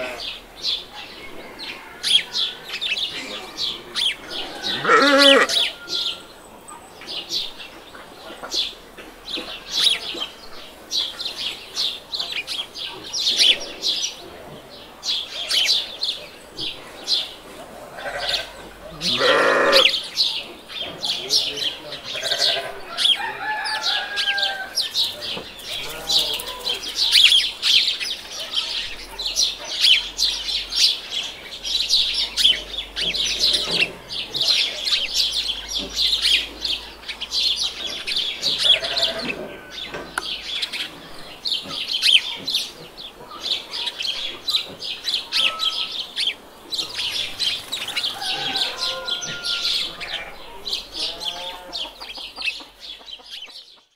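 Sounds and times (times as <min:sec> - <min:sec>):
birds chirping and tweeting: 0:00.0 - 0:53.9
chickens clucking: 0:00.0 - 0:53.9.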